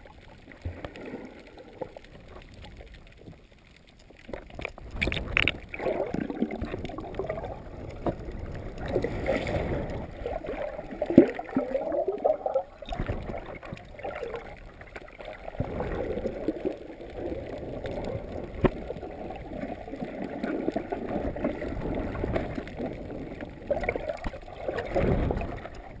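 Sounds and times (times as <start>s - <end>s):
underwater water gurgling: 0.0s - 26.0s.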